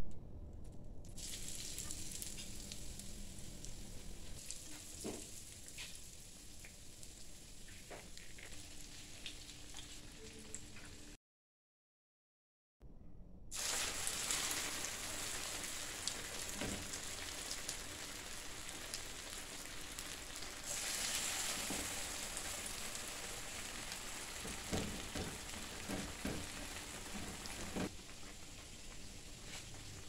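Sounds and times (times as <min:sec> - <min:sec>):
corn frying in oil sizzling: 0:01.2 - 0:11.2, 0:13.5 - 0:30.0.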